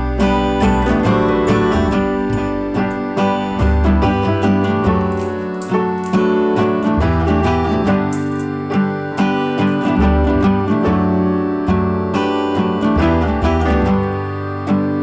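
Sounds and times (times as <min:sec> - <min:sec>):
steady beat: 0:00.0 - 0:14.5
guitar: 0:00.0 - 0:15.0
keyboard: 0:00.0 - 0:15.0
sustained bass notes: 0:00.0 - 0:15.0.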